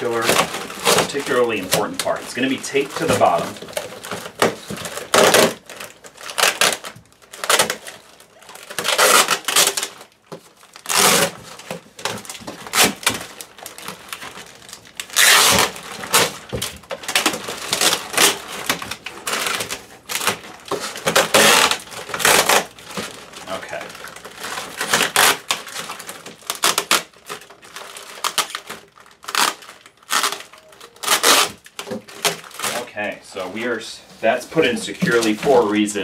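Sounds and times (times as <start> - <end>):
cardboard rubbing: 0.0 - 32.9
plastic bags crinkling: 0.0 - 36.0
tape tearing: 0.0 - 36.0.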